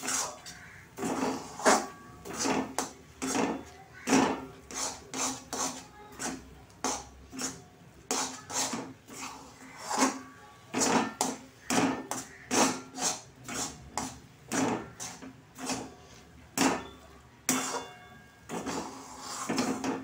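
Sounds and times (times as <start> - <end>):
spatula scraping a metal pan: 0.0 - 20.0.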